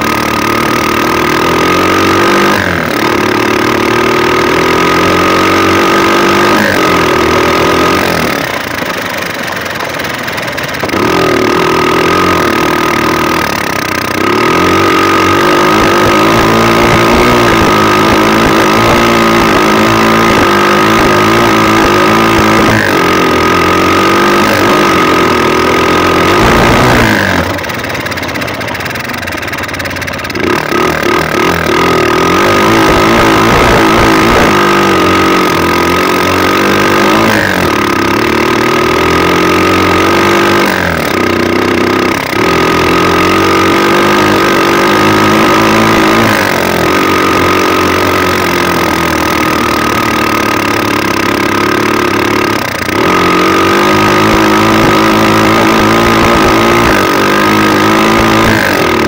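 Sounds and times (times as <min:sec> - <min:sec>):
motorcycle engine revving: 0:00.0 - 0:59.0
steady high whine: 0:00.0 - 0:59.0.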